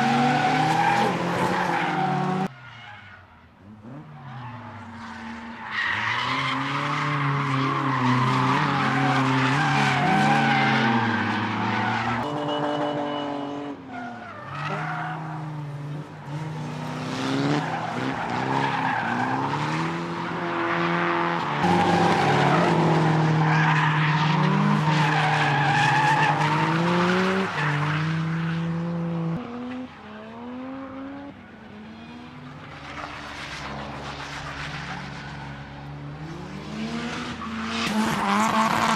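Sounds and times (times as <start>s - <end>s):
car engines revving: 0.0s - 2.6s, 3.4s - 38.9s
tyres squealing and skidding: 0.0s - 29.9s, 31.3s - 38.9s.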